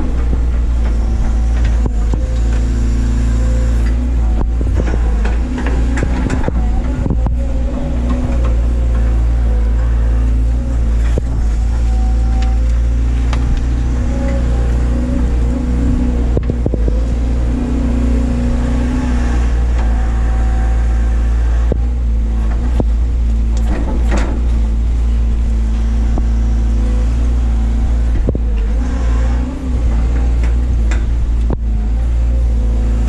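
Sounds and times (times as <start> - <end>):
excavator diesel engine running: 0.0 - 33.0
hydraulic whine: 0.0 - 33.0.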